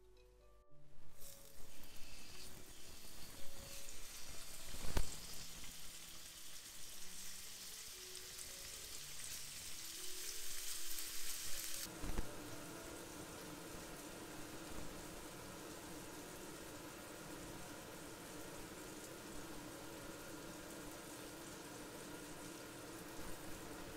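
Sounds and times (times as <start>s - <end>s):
chicken sizzling in hot oil: 1.1s - 23.9s.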